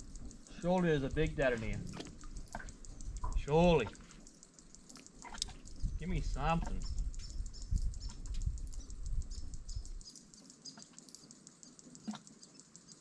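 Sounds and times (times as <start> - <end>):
rapid high-pitched ticking: 0.0 - 13.0.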